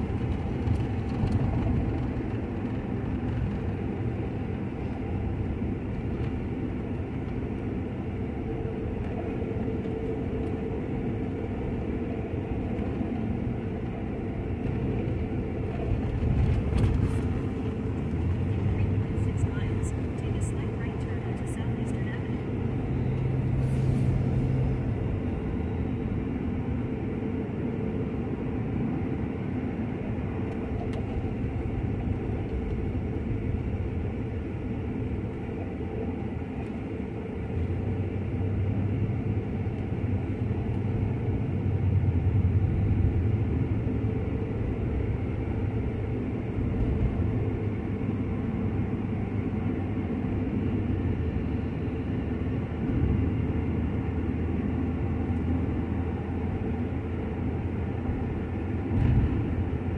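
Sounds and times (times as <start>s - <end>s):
car driving cabin rumble: 0.0s - 59.9s.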